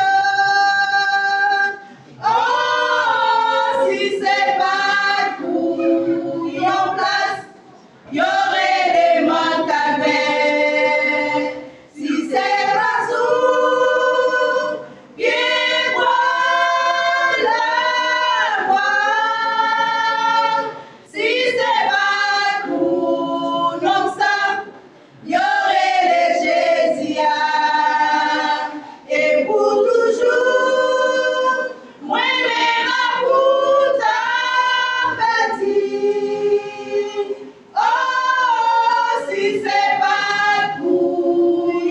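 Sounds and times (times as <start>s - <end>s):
women's choir singing a cappella: 0.0s - 41.9s.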